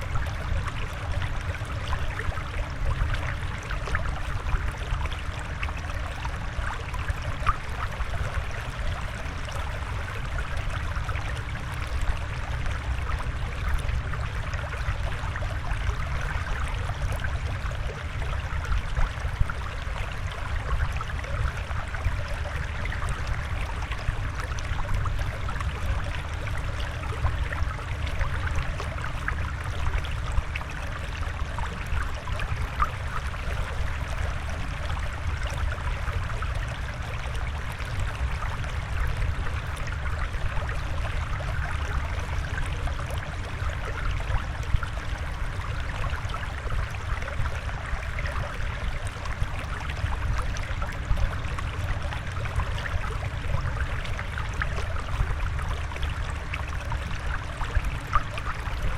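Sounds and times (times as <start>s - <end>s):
water flowing and trickling: 0.0s - 58.9s.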